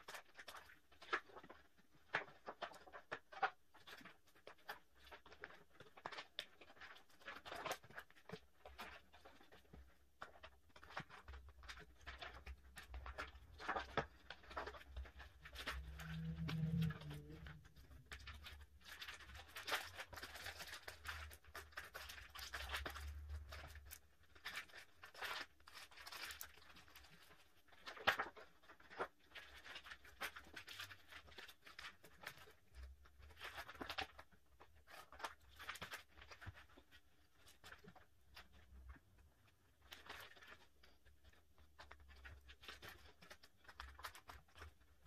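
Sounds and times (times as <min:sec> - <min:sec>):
plastic sleeves rustling: 0:00.0 - 0:45.0.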